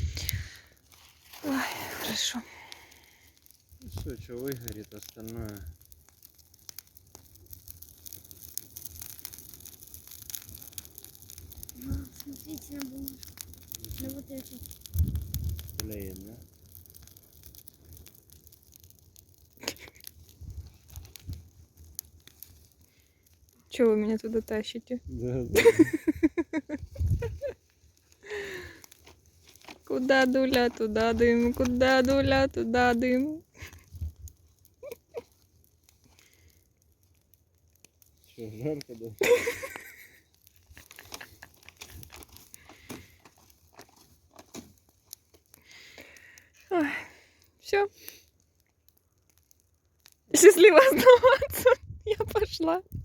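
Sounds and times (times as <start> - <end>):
bonfire crackling and popping: 0.0 - 53.0.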